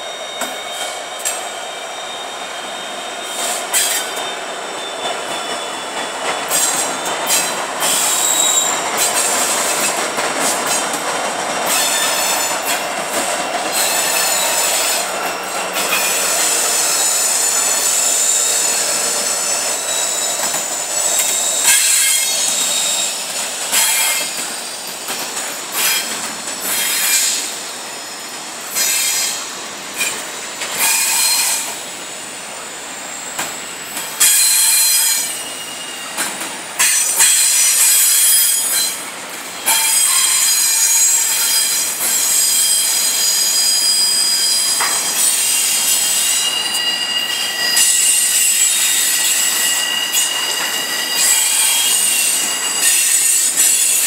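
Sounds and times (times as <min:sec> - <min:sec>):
freight train rolling rumble: 0:00.0 - 0:54.0
steel wheels squealing on rails: 0:00.0 - 0:54.0.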